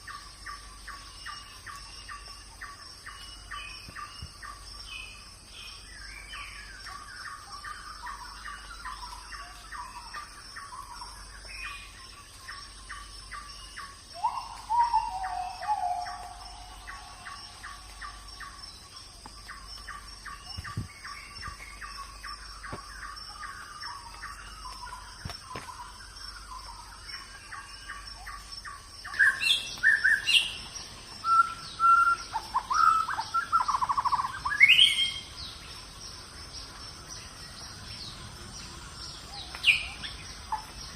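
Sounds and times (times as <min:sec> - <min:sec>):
birds chirping and calling: 0:00.1 - 0:40.9.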